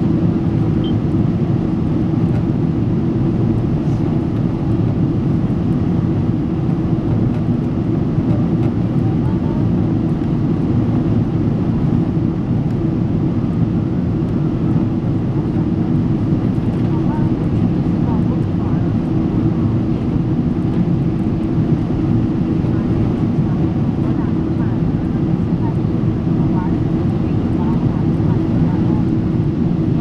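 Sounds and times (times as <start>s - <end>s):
airliner cabin engine roar: 0.0s - 30.0s.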